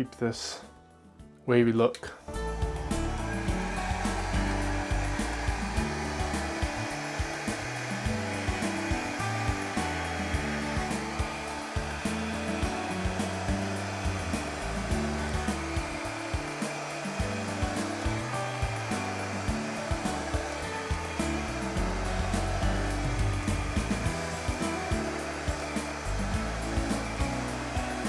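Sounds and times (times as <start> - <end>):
background music with bass line: 2.3 - 28.0
hair dryer blowing: 2.4 - 28.0.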